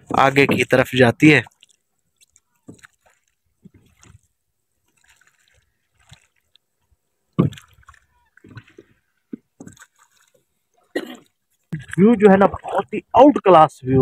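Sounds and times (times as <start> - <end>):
oars splashing water: 0.0 - 13.7.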